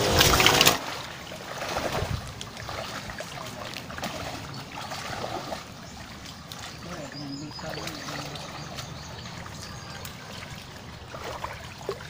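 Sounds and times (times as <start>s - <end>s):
sloshing steps in water: 0.0s - 12.0s.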